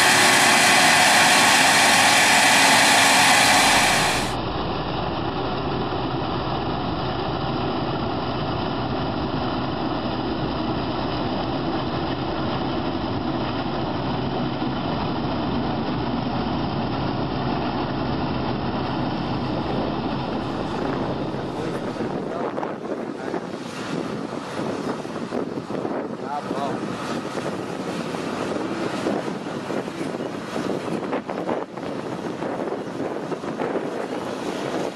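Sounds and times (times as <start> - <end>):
tractor diesel engine under load: 0.0 - 30.6.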